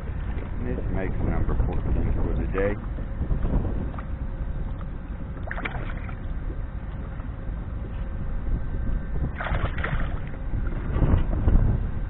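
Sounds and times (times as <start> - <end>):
water splashes: 0.0 - 7.5, 9.2 - 11.6
wind rumble: 0.0 - 12.0.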